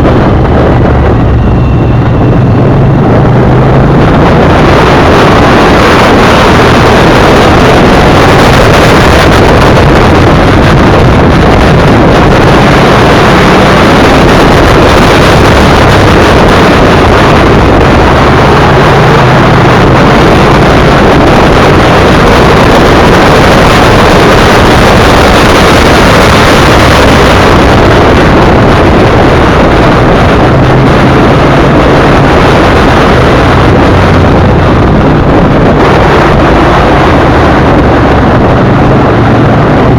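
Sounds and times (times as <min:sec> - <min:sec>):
motorcycle engine hum: 0:00.0 - 0:39.9
wind roar buffeting microphone: 0:00.0 - 0:39.9.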